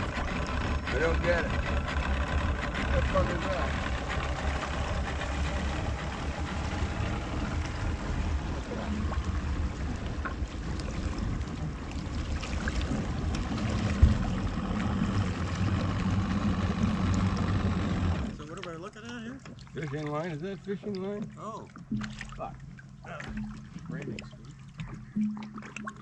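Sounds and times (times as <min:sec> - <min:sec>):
boat engine idling: 0:00.0 - 0:26.0
water splashing and trickling: 0:00.0 - 0:26.0.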